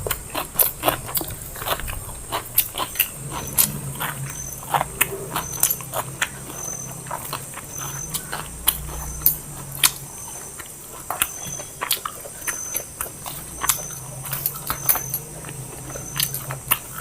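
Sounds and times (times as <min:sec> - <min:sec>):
chewing and crunching food: 0:00.0 - 0:17.0
faint crickets chirping: 0:00.0 - 0:17.0
steady low hum: 0:00.0 - 0:17.0.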